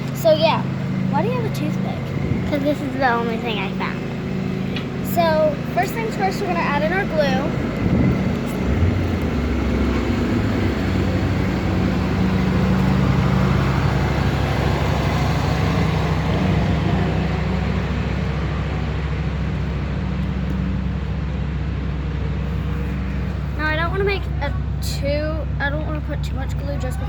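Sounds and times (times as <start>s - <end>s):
motor engine droning: 0.0s - 27.0s.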